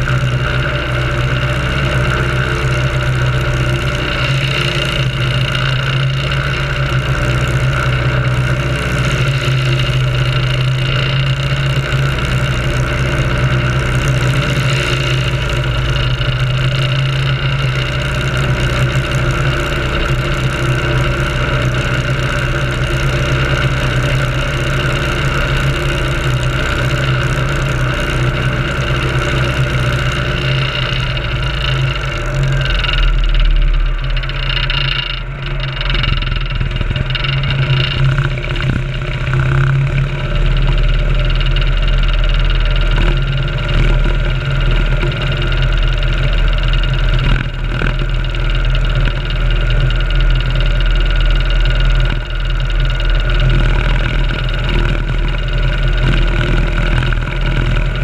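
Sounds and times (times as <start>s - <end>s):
plane engine and propeller drone: 0.0s - 58.0s.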